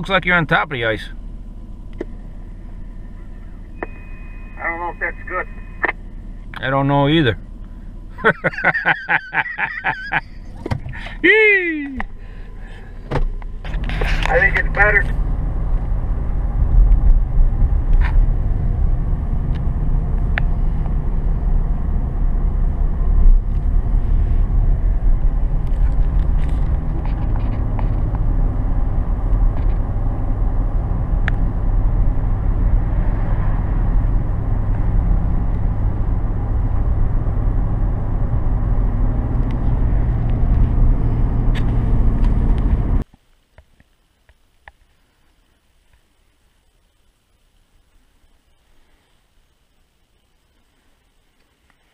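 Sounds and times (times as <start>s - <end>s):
road and engine rumble in car: 0.0s - 51.9s.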